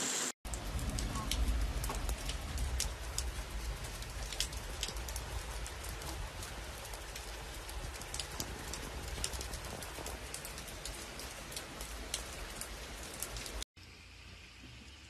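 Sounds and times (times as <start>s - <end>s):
heavy rain: 0.0s - 14.2s
raindrops ticking on hard surfaces: 0.4s - 13.6s.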